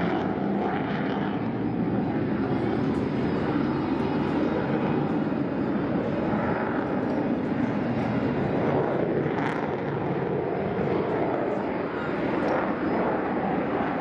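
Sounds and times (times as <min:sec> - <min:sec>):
jet engine flying overhead: 0:00.0 - 0:14.0.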